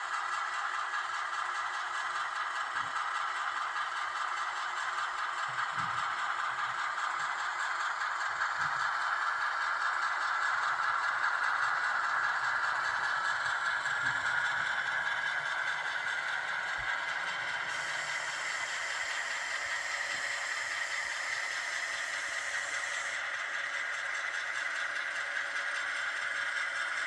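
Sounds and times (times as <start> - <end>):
model train running on track: 0.0 - 27.0.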